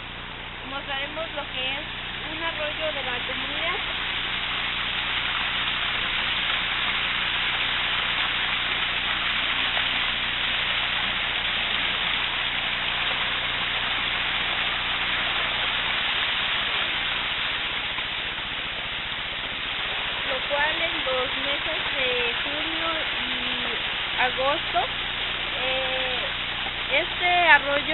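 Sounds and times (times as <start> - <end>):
stream water rushing: 0.0 - 27.9.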